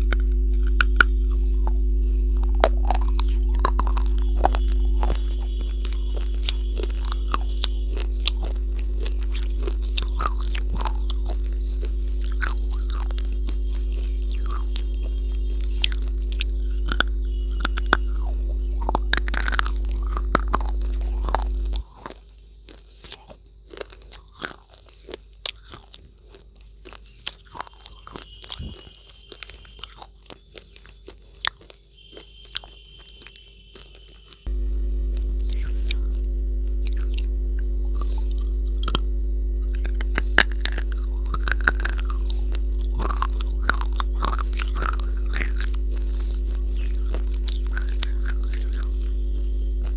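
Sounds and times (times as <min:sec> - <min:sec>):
crunching and chewing chalk: 0:00.0 - 0:49.9
steady low hum: 0:00.0 - 0:49.9.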